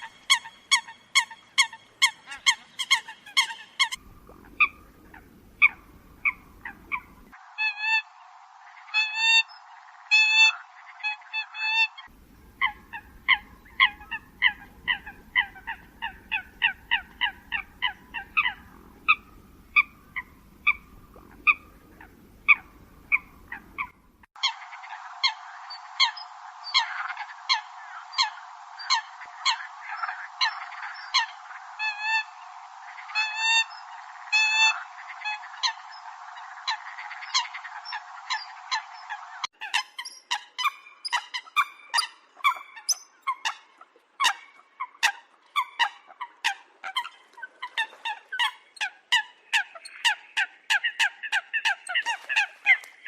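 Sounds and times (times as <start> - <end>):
coots calling: 0.0 - 8.1, 10.1 - 53.0.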